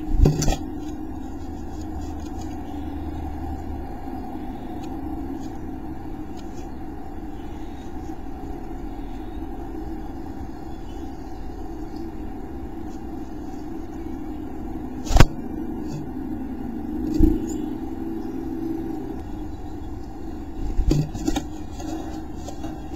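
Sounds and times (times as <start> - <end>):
steady low rumble: 0.0 - 22.9.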